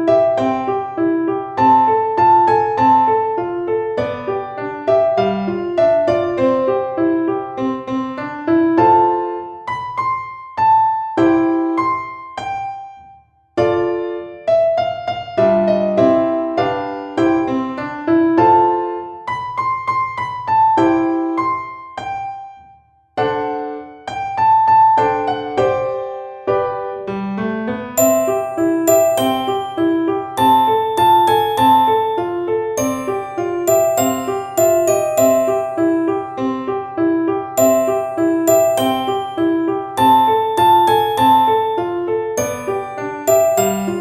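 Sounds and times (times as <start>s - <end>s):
piano melody: 0.0s - 44.0s.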